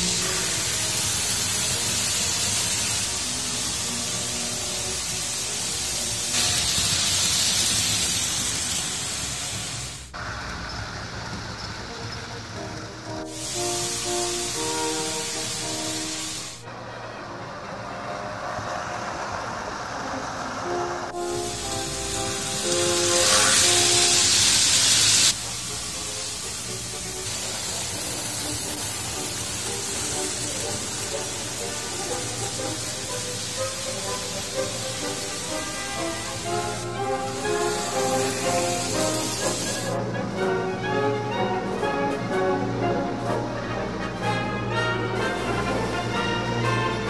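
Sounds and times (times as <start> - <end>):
faint orchestral music: 0.0 - 47.0
model train rolling on metal track: 0.0 - 47.0.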